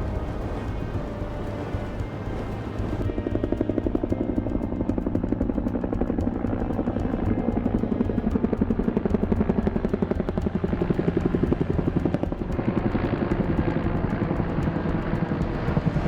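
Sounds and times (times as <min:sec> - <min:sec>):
helicopter engine noise: 0:00.0 - 0:16.0
helicopter rotor chopping: 0:00.0 - 0:16.0.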